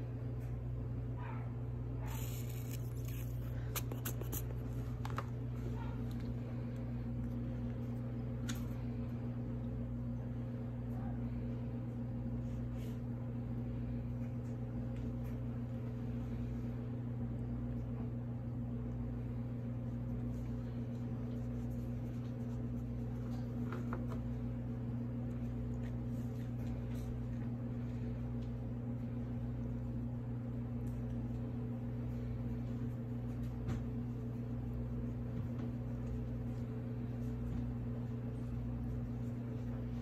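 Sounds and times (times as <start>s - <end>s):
fan humming: 0.0s - 40.0s.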